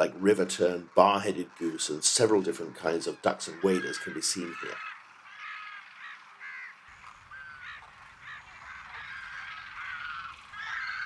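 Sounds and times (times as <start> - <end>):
harsh crow-like bird calls: 0.5 - 11.0.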